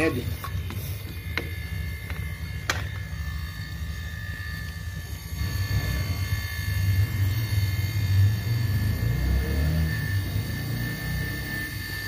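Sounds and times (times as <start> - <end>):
compressor humming: 0.0 - 12.0.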